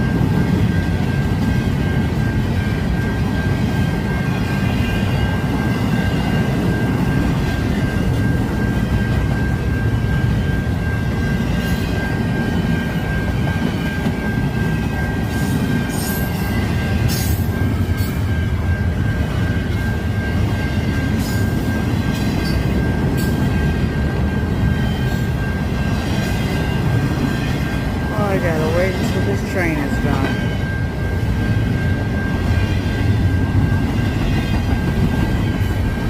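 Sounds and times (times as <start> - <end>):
train wheels rumbling on rail: 0.0 - 36.0
high-pitched tone: 0.1 - 34.7.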